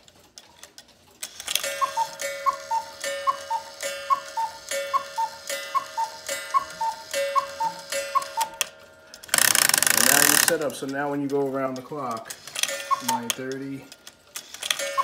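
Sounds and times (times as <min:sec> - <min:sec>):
cuckoo clock call: 0:01.2 - 0:11.4, 0:12.4 - 0:15.0
clock mechanism strike: 0:01.5 - 0:15.0.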